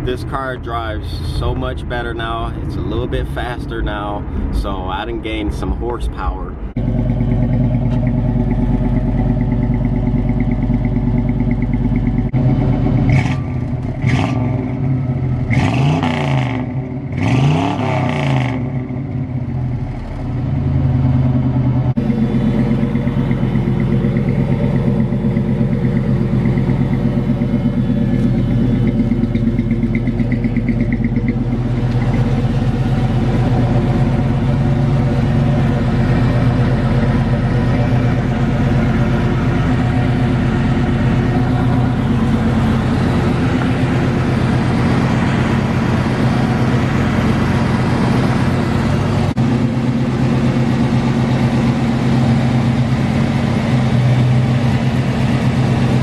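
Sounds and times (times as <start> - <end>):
deep car exhaust note: 0.0 - 56.0.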